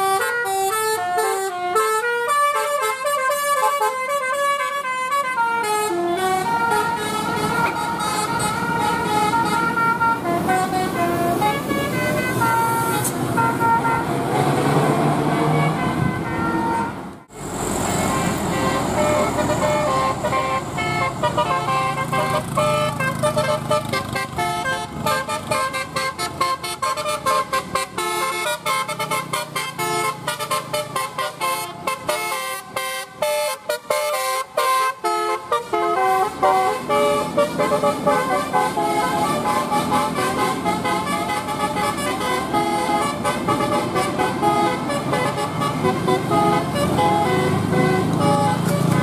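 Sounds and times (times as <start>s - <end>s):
musical air horn melody: 0.0s - 49.0s.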